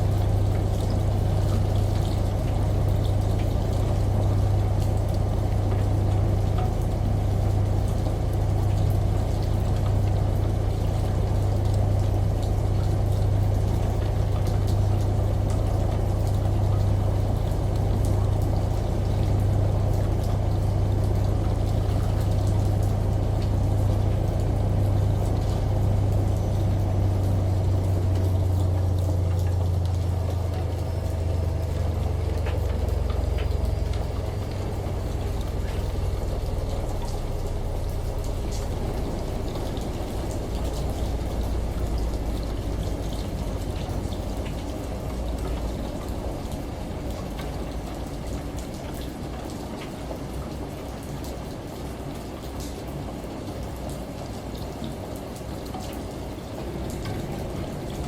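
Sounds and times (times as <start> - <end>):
water pouring: 0.0 - 52.7, 53.4 - 58.0
washing machine hum: 0.0 - 58.0
water dripping: 0.0 - 58.0.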